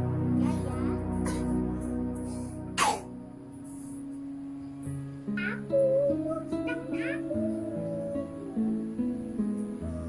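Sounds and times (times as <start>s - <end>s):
music of long held chords: 0.0s - 10.0s.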